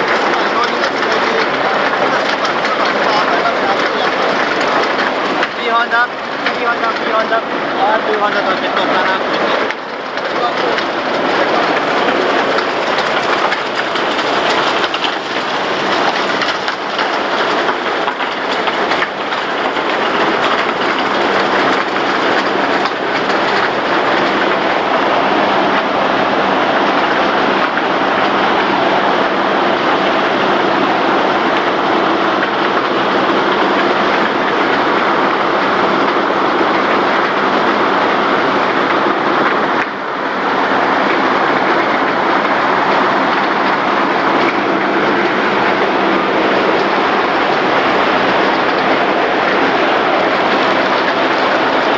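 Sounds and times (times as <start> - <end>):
grinding mill machinery noise: 0.0 - 51.9.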